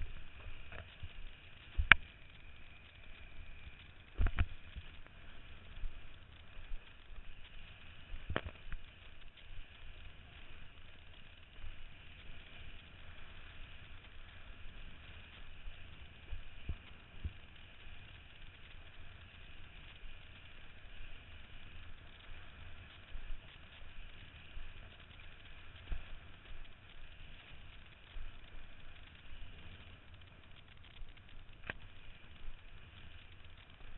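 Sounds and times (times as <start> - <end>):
water hissing under a kiteboard: 0.0 - 33.9.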